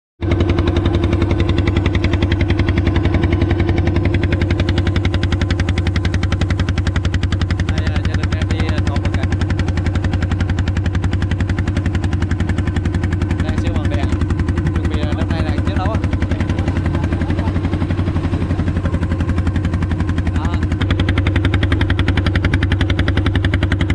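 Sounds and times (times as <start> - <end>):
boat diesel engine chugging: 0.2 - 23.9.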